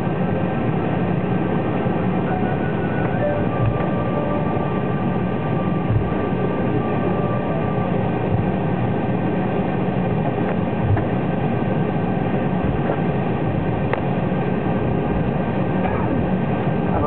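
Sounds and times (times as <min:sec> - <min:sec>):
jet engine rumble: 0:00.0 - 0:17.0
thin steady whines: 0:00.0 - 0:17.0.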